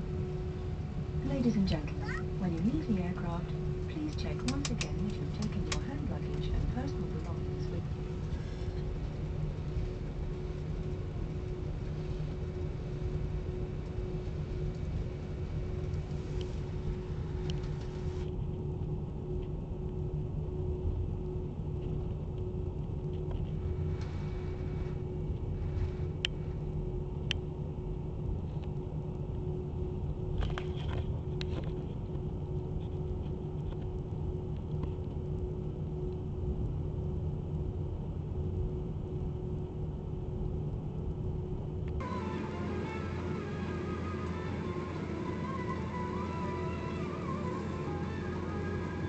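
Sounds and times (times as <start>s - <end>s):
constant hum: 0.0s - 49.0s
low rumble of aircraft engines: 0.0s - 49.0s.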